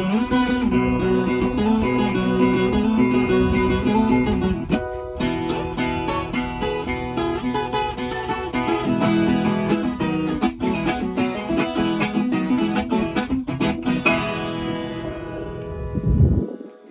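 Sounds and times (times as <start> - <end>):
steel-string guitar plucked and strummed: 0.0 - 16.4.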